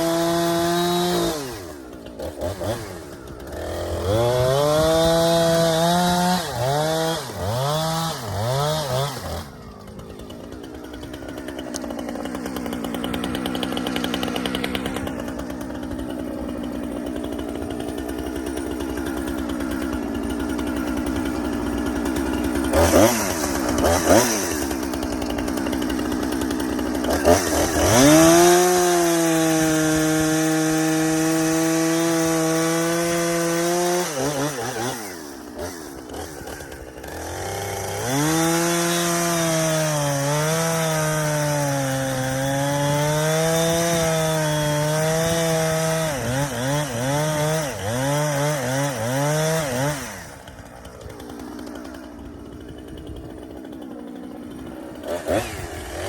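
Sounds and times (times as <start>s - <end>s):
chainsaw cutting wood: 0.0s - 56.0s
chainsaw revving: 0.0s - 56.0s.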